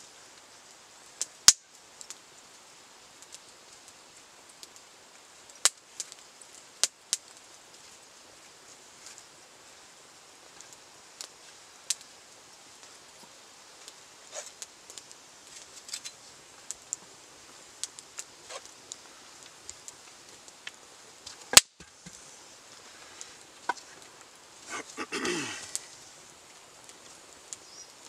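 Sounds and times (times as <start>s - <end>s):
loud sharp crack of fire: 0.0s - 28.0s
wood fire crackling: 0.0s - 28.0s.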